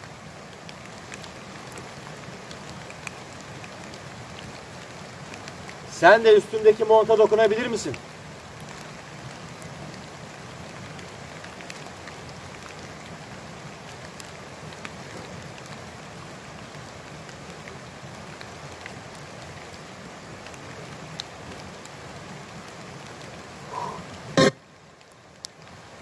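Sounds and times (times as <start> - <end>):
light rain on leaves: 0.0 - 26.0.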